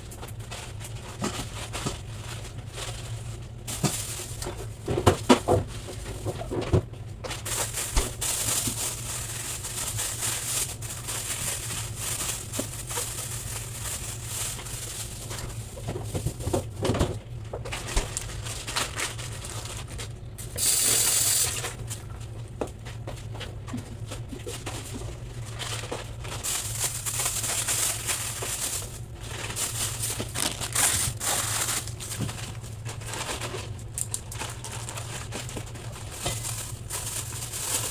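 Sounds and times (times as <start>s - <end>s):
rustling and clinks in refrigerator: 0.0s - 37.9s.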